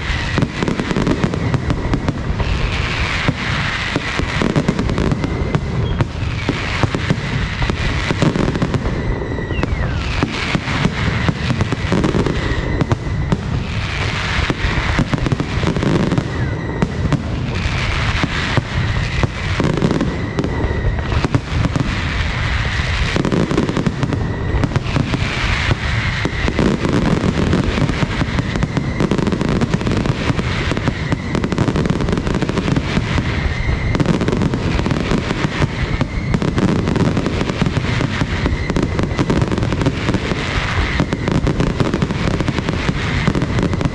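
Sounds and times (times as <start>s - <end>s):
fireworks barrage: 0.0s - 43.9s.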